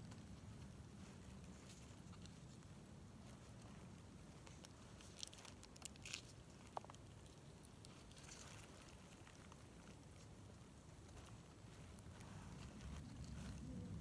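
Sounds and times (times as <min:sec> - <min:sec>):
faint crackles: 0:00.0 - 0:14.0
low steady hum: 0:00.0 - 0:14.0.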